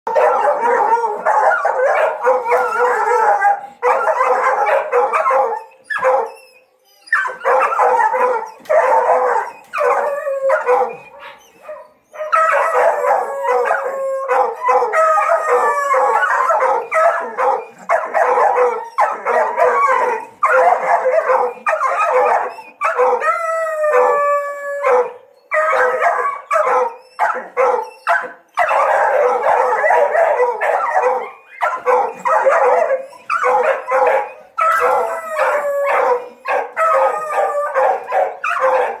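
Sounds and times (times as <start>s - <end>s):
dogs barking and howling: 0.1s - 39.0s.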